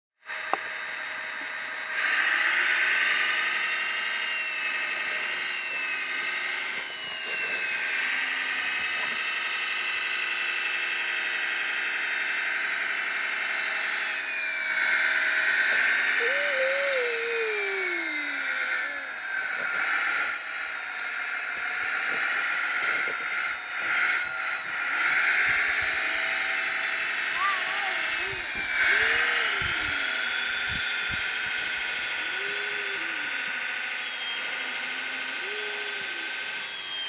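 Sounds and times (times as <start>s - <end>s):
electric motor and gearbox whine: 0.2s - 37.0s
steady engine-like hum: 0.2s - 37.0s.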